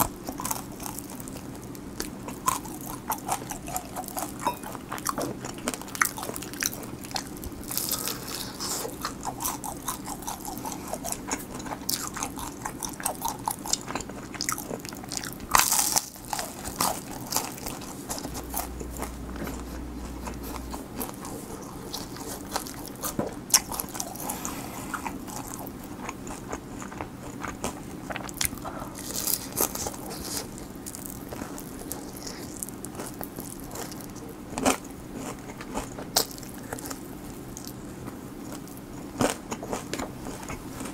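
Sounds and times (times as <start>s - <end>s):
crunchy chewing of fried chicken: 0.0s - 40.9s.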